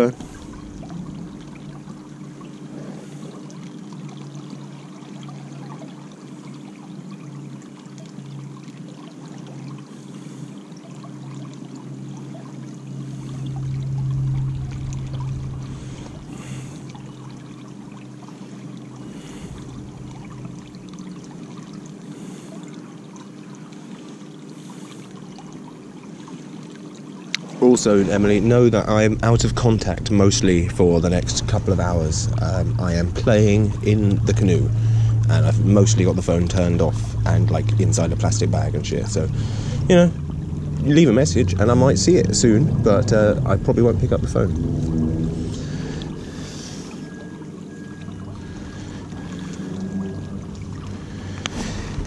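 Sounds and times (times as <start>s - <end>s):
river water trickling: 0.0s - 52.0s
steady low hum: 0.0s - 52.0s.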